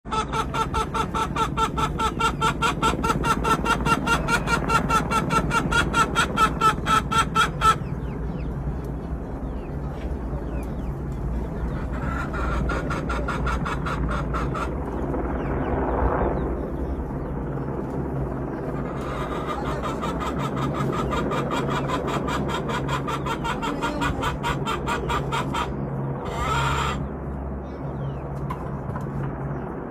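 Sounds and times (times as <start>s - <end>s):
helicopter rotor chopping: 0.1s - 29.9s
turbine whine: 0.3s - 29.9s.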